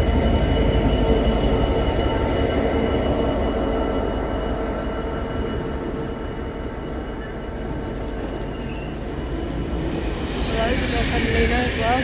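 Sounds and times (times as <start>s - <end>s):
train low rumble: 0.0s - 12.0s
train wheels and brakes squealing: 0.0s - 12.0s.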